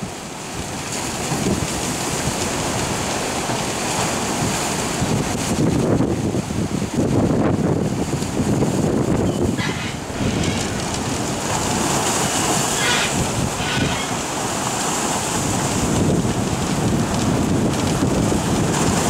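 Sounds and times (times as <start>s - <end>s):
storm waves breaking: 0.0s - 19.0s
wind buffeting microphone: 0.0s - 19.0s.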